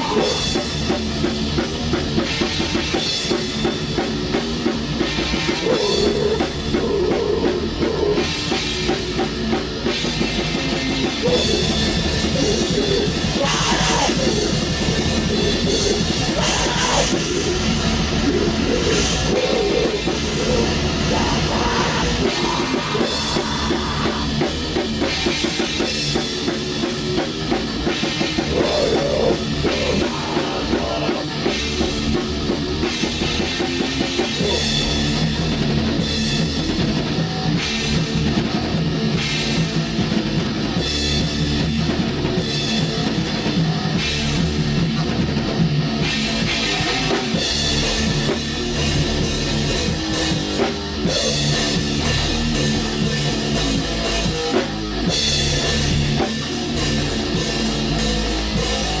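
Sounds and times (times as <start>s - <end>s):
drum kit with cymbals: 0.0s - 59.0s
metal band playing: 0.0s - 59.0s.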